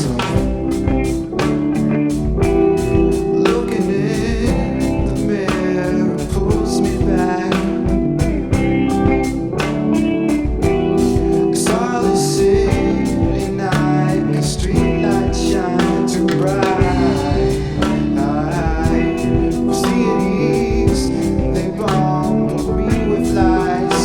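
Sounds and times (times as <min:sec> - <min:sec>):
drum kit beat: 0:00.0 - 0:24.0
live band playing: 0:00.0 - 0:24.0.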